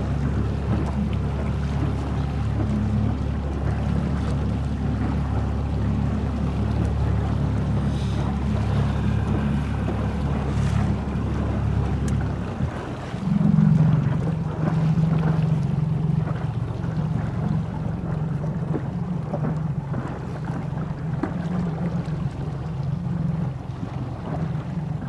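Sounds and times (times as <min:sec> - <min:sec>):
outboard engine humming: 0:00.0 - 0:25.0
wind on microphone: 0:00.0 - 0:25.0.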